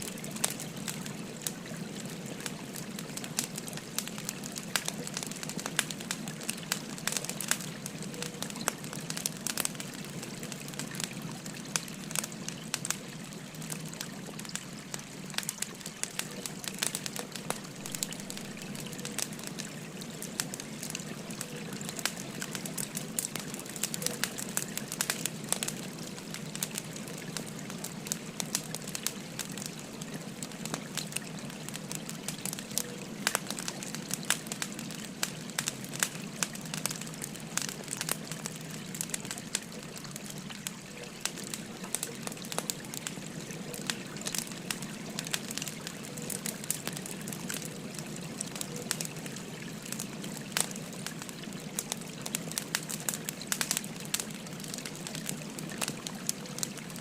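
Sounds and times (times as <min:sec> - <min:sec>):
firewood crackling and popping: 0:00.0 - 0:57.0
stream flowing: 0:00.0 - 0:57.0.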